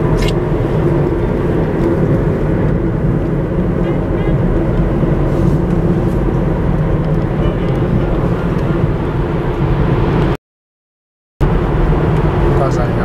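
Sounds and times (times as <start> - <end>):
car engine and road noise: 0.0 - 10.4, 11.4 - 13.0.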